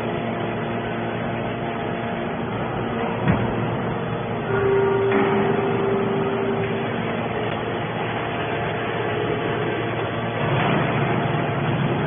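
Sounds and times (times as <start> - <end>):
hydraulic baler droning: 0.0 - 12.0.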